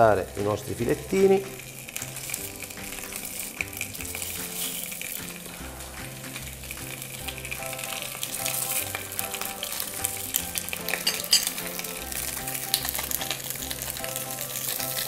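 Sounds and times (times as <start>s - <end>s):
fish sizzling in a frying pan: 0.0s - 15.0s.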